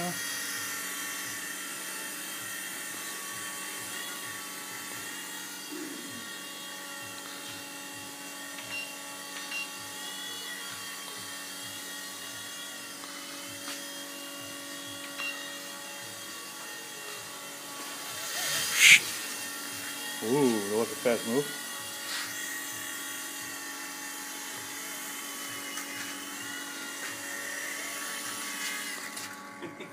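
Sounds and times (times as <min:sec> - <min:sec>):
small electric motors whining: 0:00.0 - 0:29.9.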